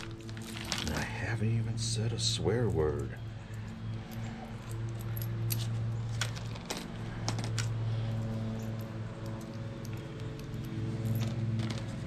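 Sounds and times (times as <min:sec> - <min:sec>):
metal bolts and nuts clinking: 0:00.0 - 0:01.1, 0:02.5 - 0:12.0.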